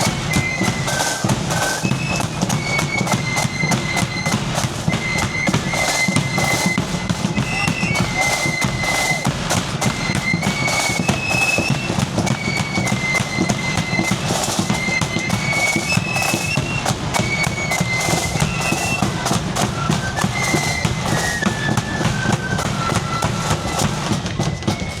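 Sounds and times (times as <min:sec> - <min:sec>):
high flutes playing tune: 0:00.0 - 0:25.0
snare and bass drumming: 0:00.0 - 0:25.0.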